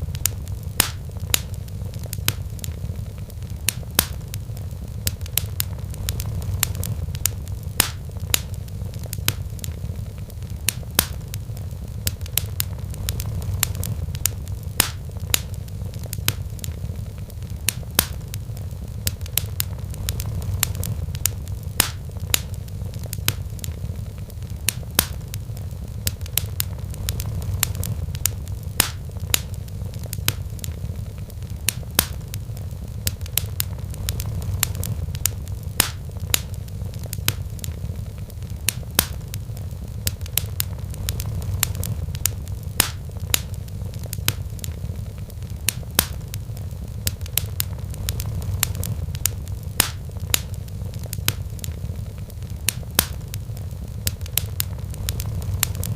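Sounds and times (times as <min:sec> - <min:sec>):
low rumble: 0:00.0 - 0:55.9
wood fire crackling and popping: 0:00.0 - 0:55.9.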